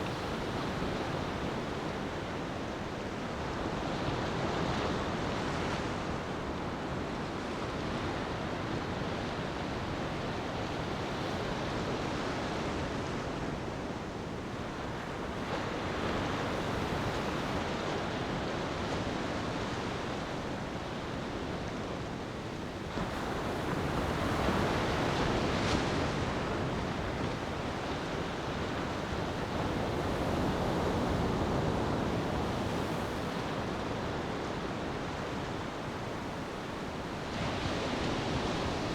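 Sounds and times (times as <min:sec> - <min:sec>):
ocean waves washing onto beach: 0:00.0 - 0:38.9.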